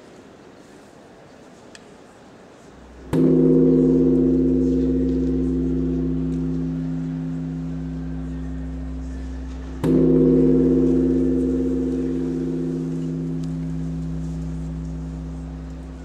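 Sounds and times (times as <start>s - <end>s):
gong ringing: 2.9s - 16.0s.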